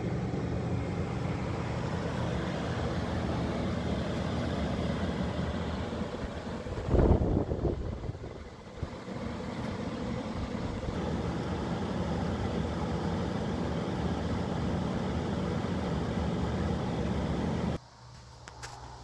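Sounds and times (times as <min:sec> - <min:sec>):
air conditioner fan rush: 0:00.0 - 0:19.0
air conditioner motor hum: 0:00.0 - 0:19.0.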